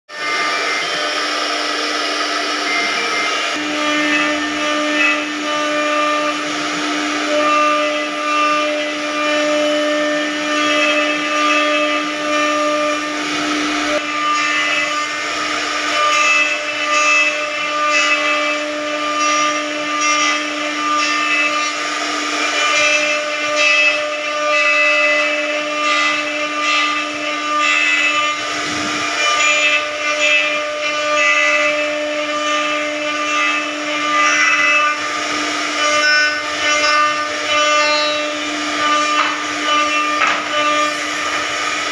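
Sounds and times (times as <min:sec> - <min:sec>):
power tool motor hum: 0:00.1 - 0:41.9
wood rasping: 0:02.6 - 0:41.9.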